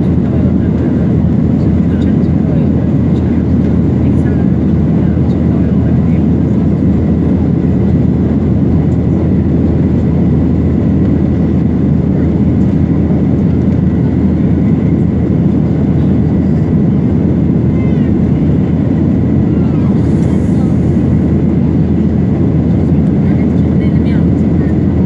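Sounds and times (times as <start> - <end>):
airliner engines rumbling in cabin: 0.0 - 25.0.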